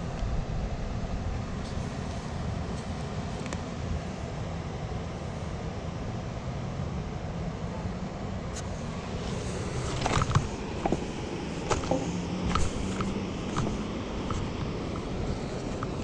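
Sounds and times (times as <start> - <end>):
outdoor rumble with low hum: 0.0 - 16.0.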